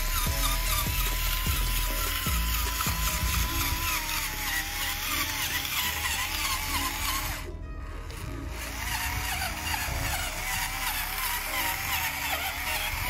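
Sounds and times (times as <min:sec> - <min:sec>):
background music: 0:00.0 - 0:13.0
electric motor whine: 0:00.0 - 0:13.0.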